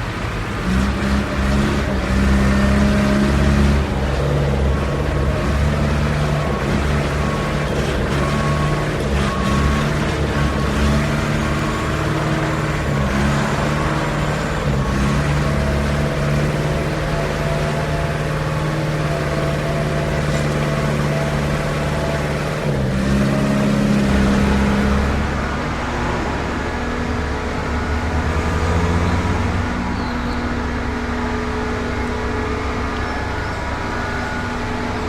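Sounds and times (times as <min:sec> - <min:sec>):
concrete mixer truck running: 0:00.0 - 0:35.0.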